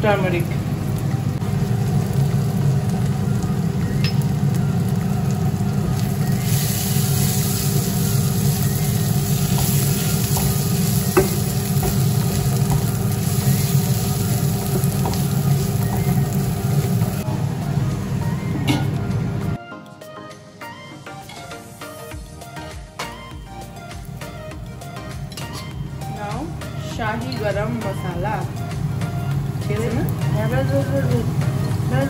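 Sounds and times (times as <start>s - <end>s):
onions sizzling in a pan: 0.0s - 19.3s, 24.9s - 32.0s.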